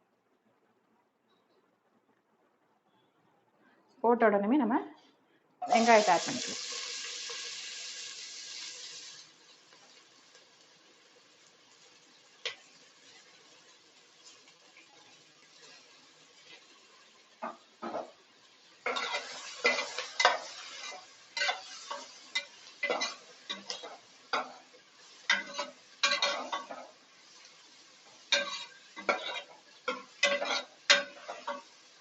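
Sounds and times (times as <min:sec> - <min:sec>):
light sizzle: 0:05.6 - 0:32.0
spoon stirring and scraping onions: 0:05.6 - 0:32.0.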